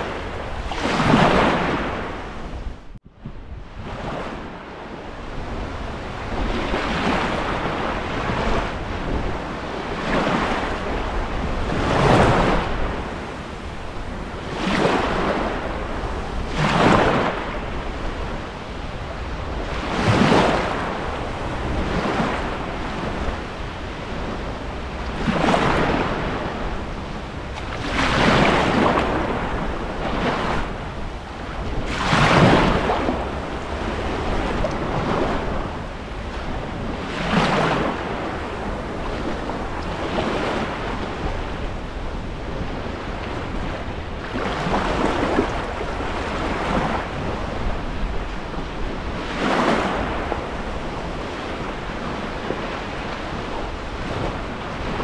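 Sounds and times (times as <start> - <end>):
small waves washing on sand: 0.0 - 2.6, 3.7 - 55.0.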